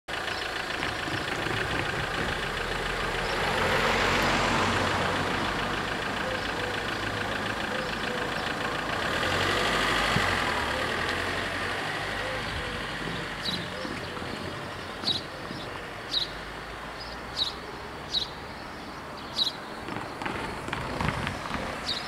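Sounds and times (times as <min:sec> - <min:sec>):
car engine idling: 0:00.1 - 0:22.0
traffic noise: 0:00.1 - 0:22.0.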